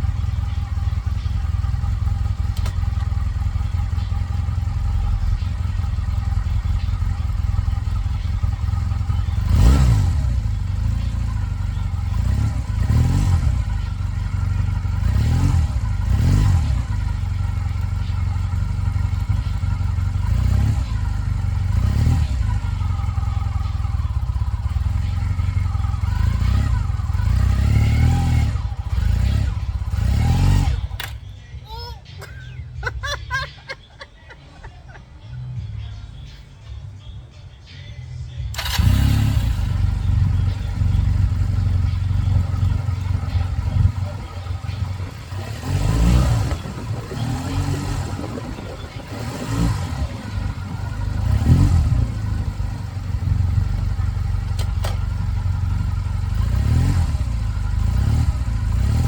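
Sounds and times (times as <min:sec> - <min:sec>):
motorcycle engine revving: 0:00.0 - 0:31.5, 0:38.4 - 0:59.0.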